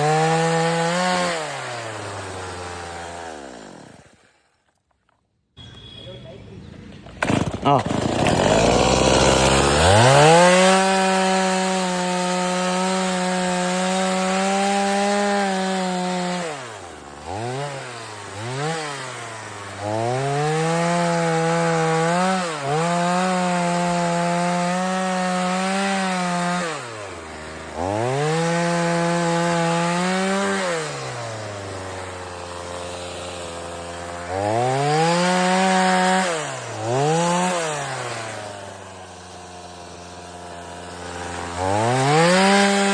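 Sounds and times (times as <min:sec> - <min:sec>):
chainsaw cutting wood: 0:00.0 - 0:06.0, 0:07.0 - 0:42.9.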